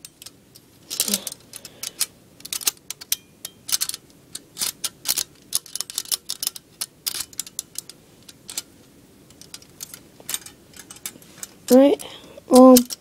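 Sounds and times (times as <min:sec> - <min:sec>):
metal spike clicking in maze: 0:00.0 - 0:08.7, 0:09.3 - 0:11.5, 0:12.5 - 0:13.0.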